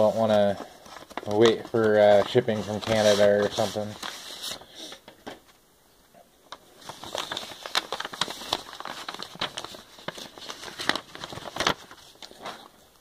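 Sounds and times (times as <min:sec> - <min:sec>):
packaging crinkling and rustling: 0:00.0 - 0:05.6, 0:06.5 - 0:13.0.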